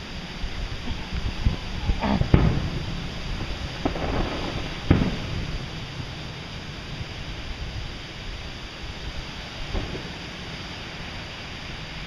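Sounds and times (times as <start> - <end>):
firework shells bursting: 0.0 - 12.0
wind rumble on microphone: 0.0 - 12.0.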